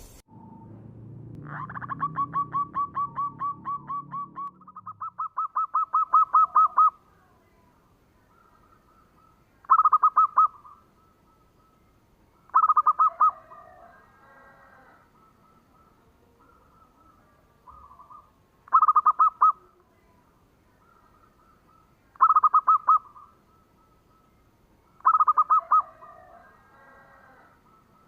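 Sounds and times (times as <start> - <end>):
dove cooing: 1.5 - 7.4, 8.3 - 11.7, 12.4 - 19.8, 20.8 - 24.2, 25.0 - 28.0.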